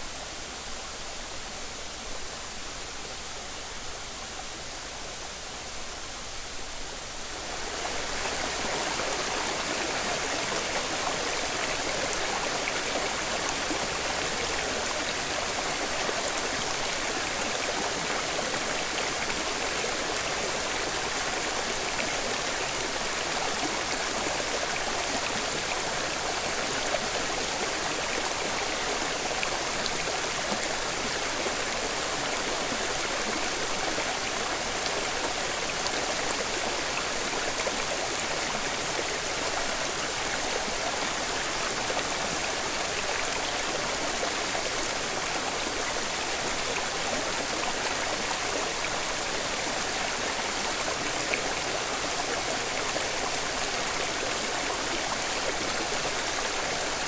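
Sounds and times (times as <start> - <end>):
stream and waterfall rushing: 0.0 - 57.0.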